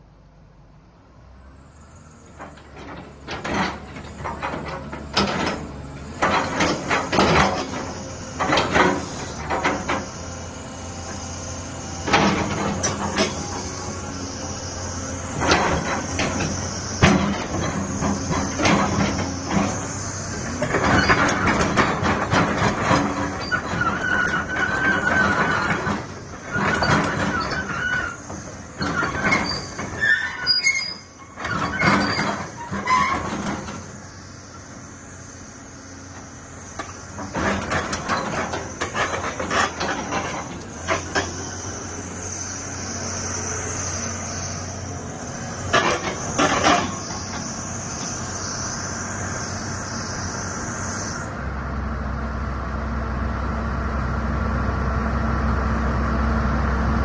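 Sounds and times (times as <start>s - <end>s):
excavator diesel engine running: 0.0s - 57.0s
metal-on-metal squeal: 2.3s - 51.3s.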